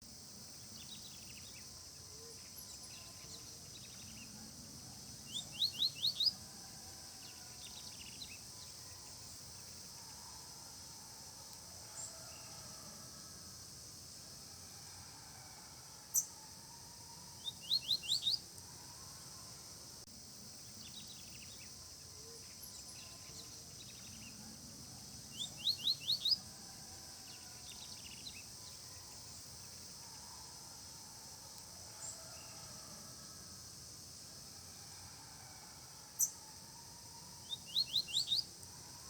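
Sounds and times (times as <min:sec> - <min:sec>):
high insect hiss: 0:00.0 - 0:39.0.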